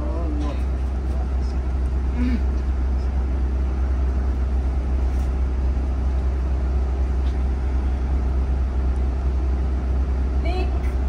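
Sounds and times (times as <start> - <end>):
bus rumble from inside cabin: 0.0 - 11.0.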